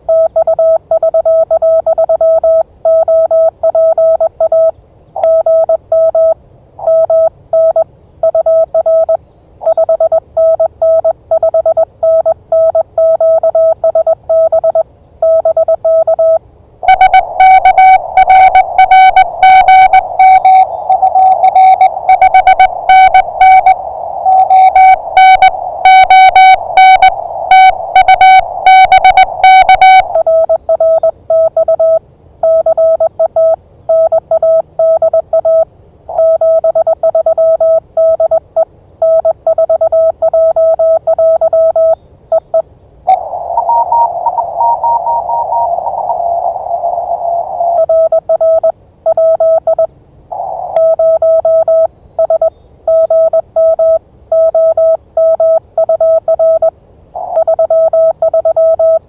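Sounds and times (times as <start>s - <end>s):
harsher morse signal: 0.0s - 38.4s, 39.0s - 42.0s, 43.1s - 59.0s
morse code tone: 0.0s - 38.4s, 39.0s - 42.0s, 43.1s - 46.1s, 47.7s - 59.0s
receiver hiss: 0.0s - 59.0s.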